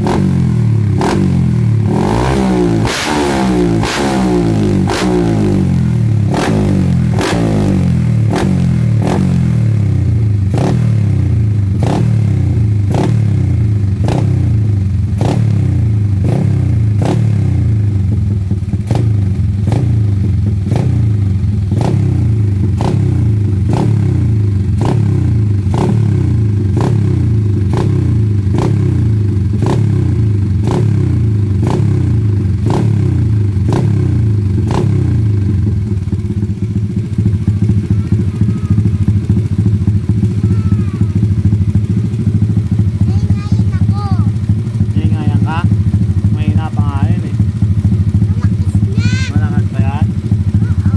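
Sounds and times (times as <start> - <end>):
motorbike engine rumbling: 0.0 - 50.9.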